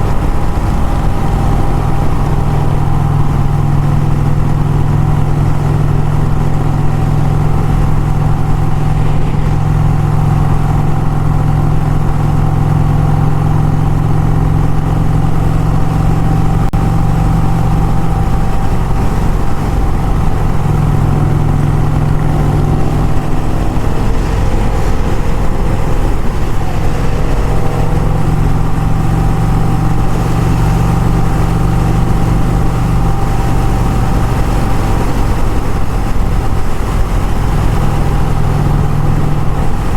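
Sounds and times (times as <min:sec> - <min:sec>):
motorcycle engine cruising: 0:00.0 - 0:39.9
road noise: 0:00.0 - 0:39.9
second engine rising and falling: 0:00.0 - 0:39.9.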